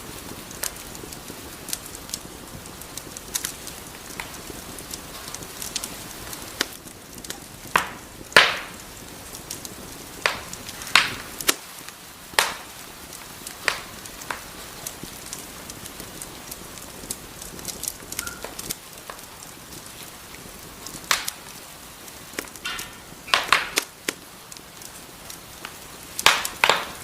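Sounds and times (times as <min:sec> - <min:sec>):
steady hiss: 0:00.0 - 0:27.0
wood fire crackling: 0:00.0 - 0:27.0.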